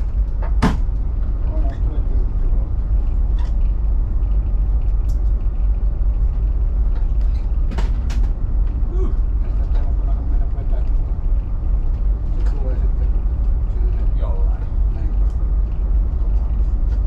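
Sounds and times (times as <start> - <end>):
boat engines rumbling: 0.0 - 17.0.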